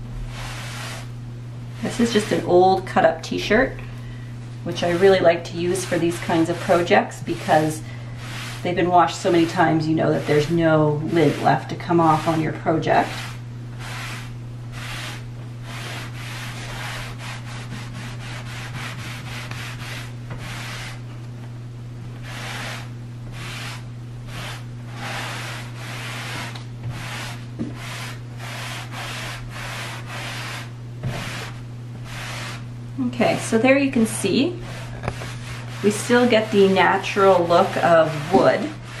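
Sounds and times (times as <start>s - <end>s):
rag rubbing on wood: 0.2s - 1.1s, 1.8s - 2.6s, 4.7s - 21.1s, 22.2s - 32.7s, 33.3s - 39.0s.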